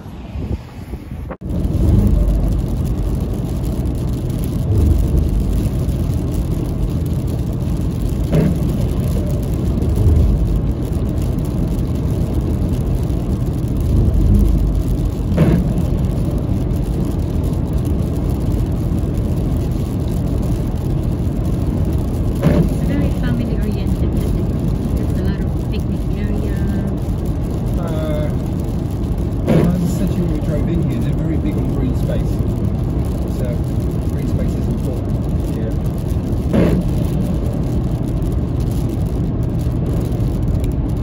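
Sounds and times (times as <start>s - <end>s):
car road noise rumble: 0.0s - 41.0s.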